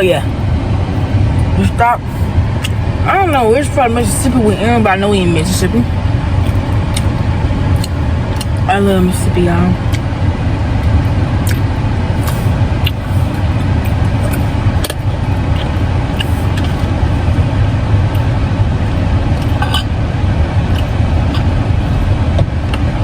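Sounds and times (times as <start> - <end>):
car cabin rumble: 0.0 - 23.0.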